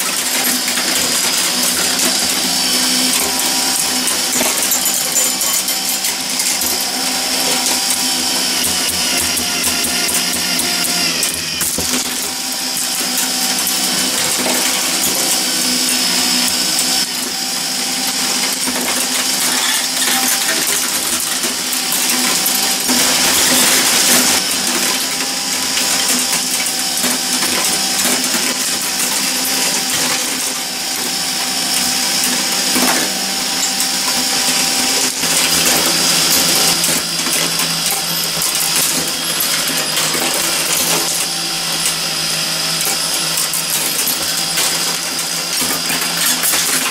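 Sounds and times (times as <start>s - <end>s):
motor and gears whirring: 0.0s - 46.9s.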